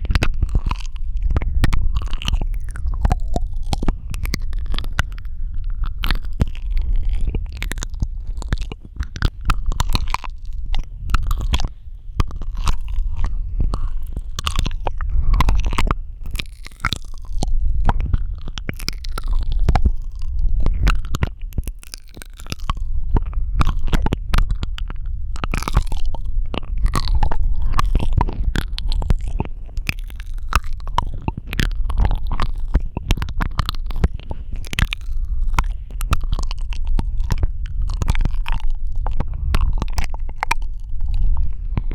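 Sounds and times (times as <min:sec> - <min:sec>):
constant low rumble: 0:00.0 - 0:41.9
wet mouth clicks and smacks: 0:00.0 - 0:41.9.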